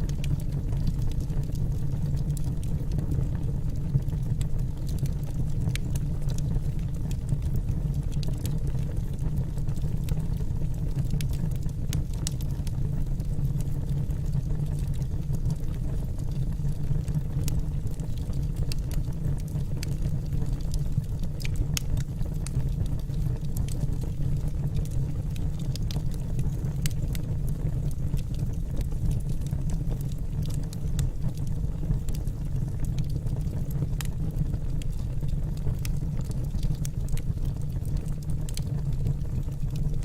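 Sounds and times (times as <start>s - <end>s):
fire flames rumbling: 0.0s - 40.0s
logs crackling and popping: 0.0s - 40.0s.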